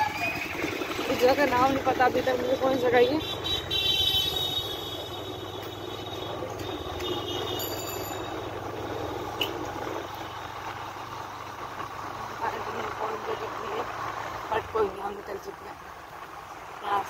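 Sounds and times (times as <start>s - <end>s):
motorbike engine hum: 0.0s - 17.0s
road and wind noise: 0.0s - 17.0s.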